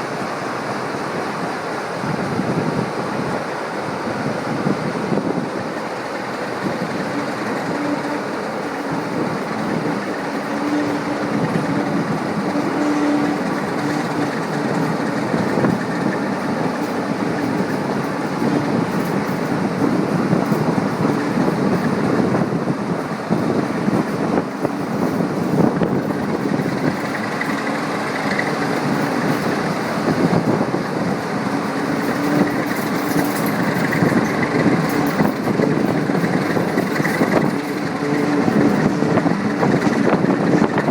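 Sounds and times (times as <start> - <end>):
train mechanical din: 0.0 - 40.9.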